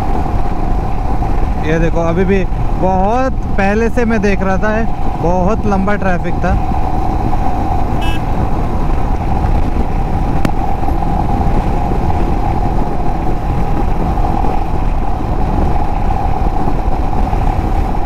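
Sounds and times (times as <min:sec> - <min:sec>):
motorcycle engine cruising: 0:00.0 - 0:18.0.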